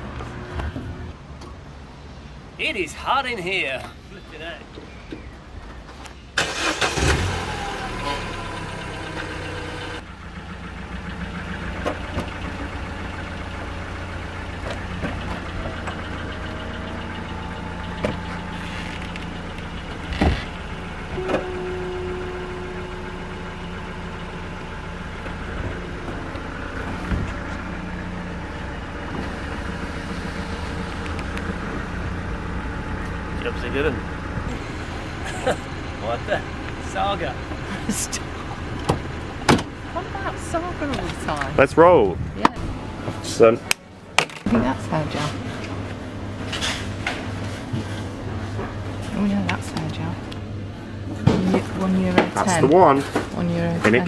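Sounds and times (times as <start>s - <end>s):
car engine and road hum: 0.0s - 54.0s.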